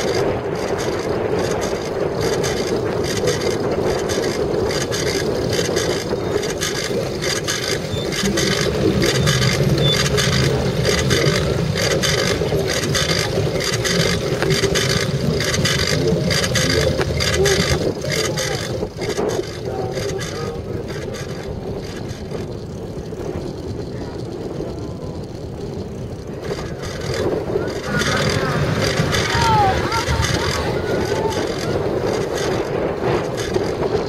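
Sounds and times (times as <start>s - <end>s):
bicycle rattling over rough ground: 0.0s - 34.0s
wind buffeting microphone: 0.0s - 34.0s.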